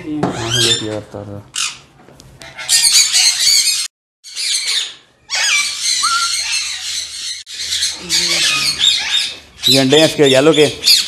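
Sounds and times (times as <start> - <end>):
parrots screeching: 0.3 - 0.9, 1.5 - 11.0.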